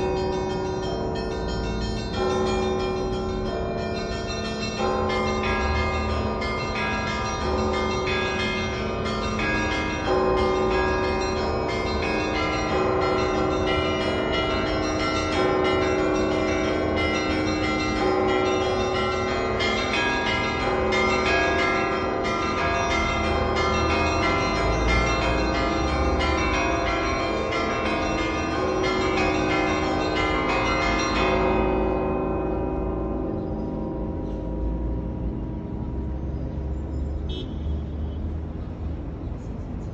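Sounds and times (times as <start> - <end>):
church bells pealing: 0.0 - 36.6.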